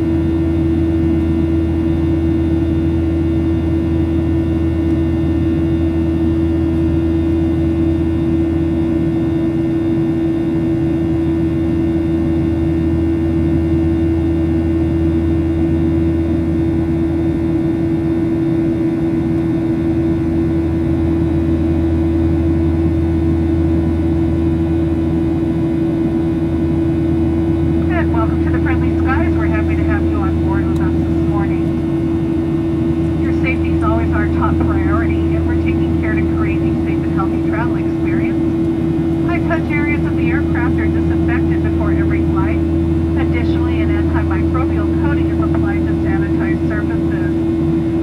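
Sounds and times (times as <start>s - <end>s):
airliner cabin hum: 0.0s - 48.0s.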